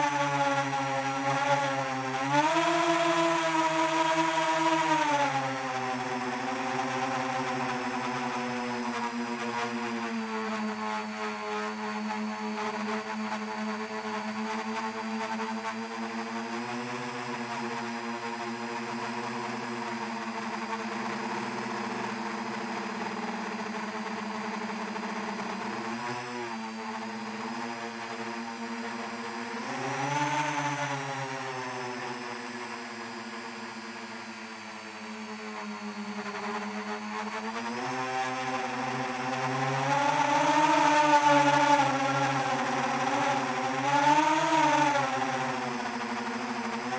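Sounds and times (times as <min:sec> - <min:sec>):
drone propellers whirring: 0:00.0 - 0:46.9.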